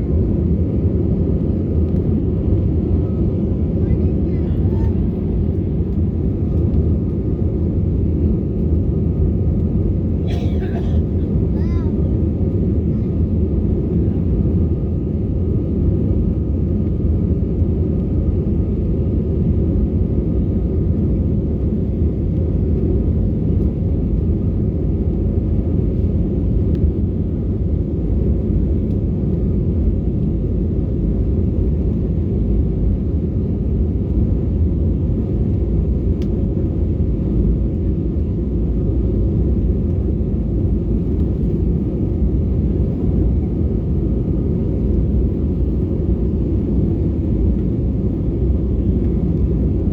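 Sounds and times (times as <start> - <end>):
engine and airflow rumble: 0.0 - 49.9.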